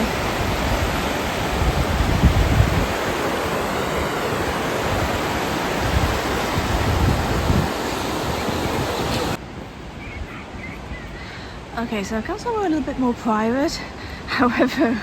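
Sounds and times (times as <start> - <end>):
wind buffeting microphone: 0.0 - 12.6
river water rushing: 0.0 - 14.5.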